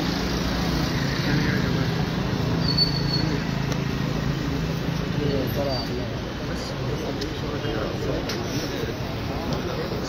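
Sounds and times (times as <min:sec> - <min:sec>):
murmur of many people talking: 0:00.0 - 0:10.0.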